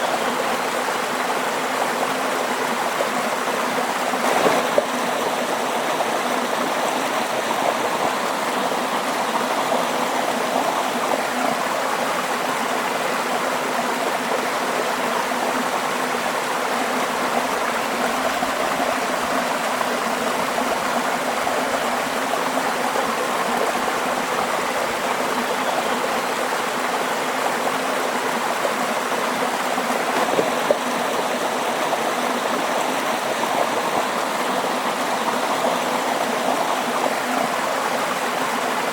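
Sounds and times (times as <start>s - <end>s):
water flowing steadily: 0.0s - 38.9s.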